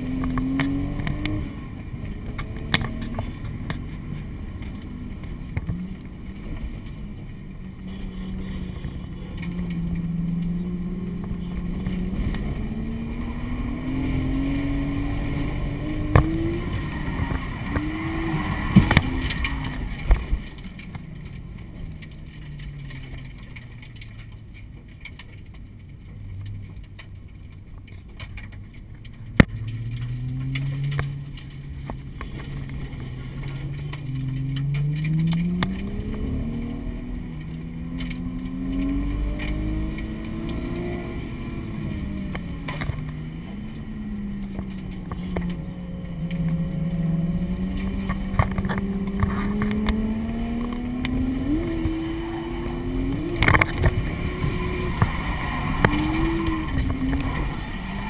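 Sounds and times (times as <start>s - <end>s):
car engine revving: 0.0s - 24.3s, 28.7s - 58.0s.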